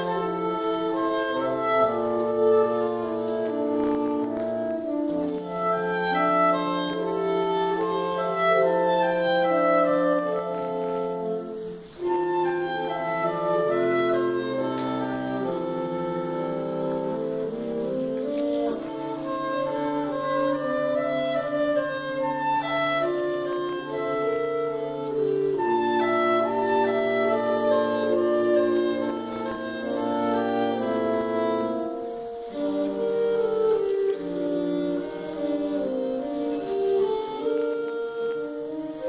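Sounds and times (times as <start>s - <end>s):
low baritone saxophone note: 0.0s - 39.0s
saxophones playing in harmony: 0.0s - 39.0s.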